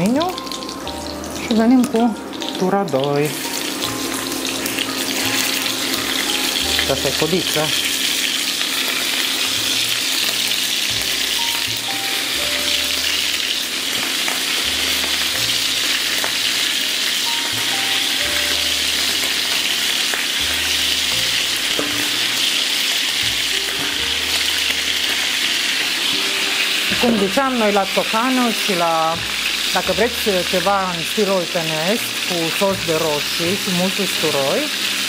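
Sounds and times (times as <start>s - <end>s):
meat sizzling in frying pan: 0.0s - 35.0s.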